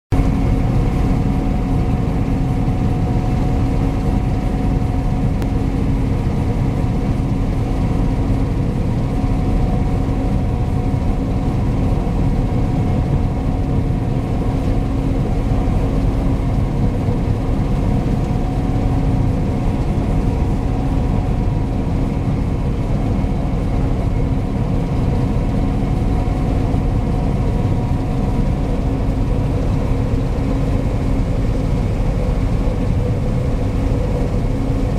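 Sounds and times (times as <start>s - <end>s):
combine harvester drone: 0.1s - 34.9s.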